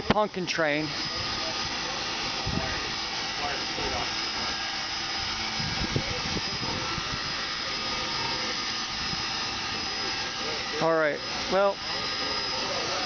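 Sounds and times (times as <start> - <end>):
steam locomotive hissing and rumbling: 0.0 - 13.0
faint voices: 0.9 - 13.0.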